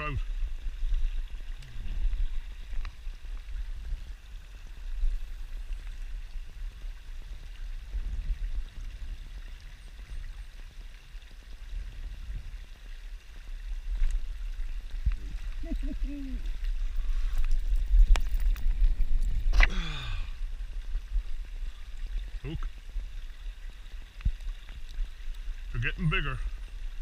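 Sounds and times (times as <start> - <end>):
river running over stones: 0.0 - 27.0.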